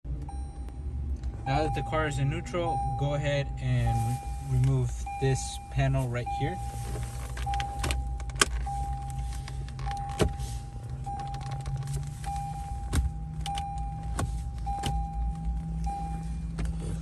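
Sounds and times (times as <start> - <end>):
car warning chime beeping: 0.1 - 17.0
low steady hum: 0.1 - 17.0.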